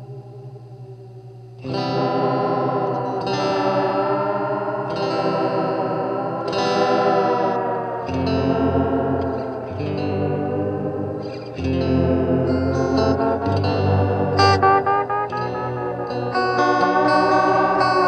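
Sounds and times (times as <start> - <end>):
electric guitar chords strummed: 0.0 - 18.0.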